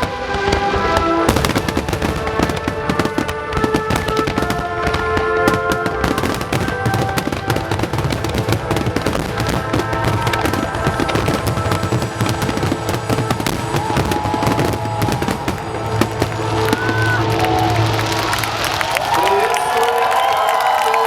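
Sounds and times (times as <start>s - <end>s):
music playing: 0.0s - 19.9s
fireworks bangs and crackles: 0.0s - 20.3s.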